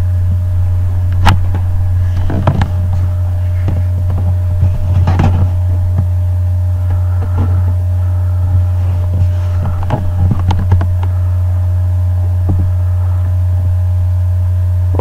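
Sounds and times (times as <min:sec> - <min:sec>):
loud steady low hum: 0:00.0 - 0:15.0.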